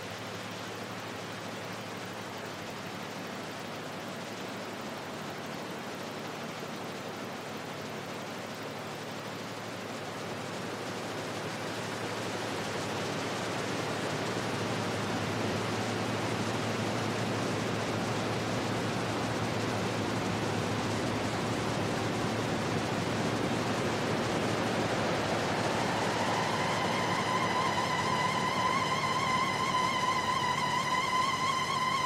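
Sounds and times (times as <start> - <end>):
hiss-like noise wash: 0.0 - 32.0
low steady hum: 0.0 - 32.0.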